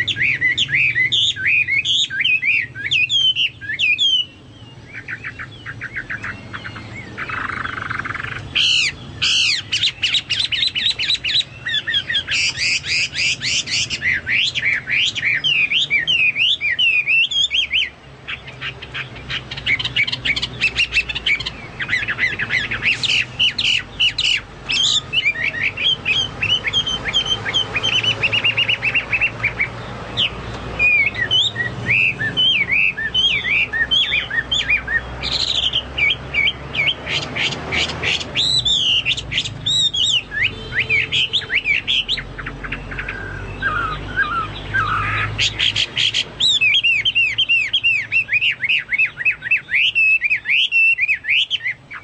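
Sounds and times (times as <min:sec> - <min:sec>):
songbird whistling and trilling: 0:00.0 - 0:52.0.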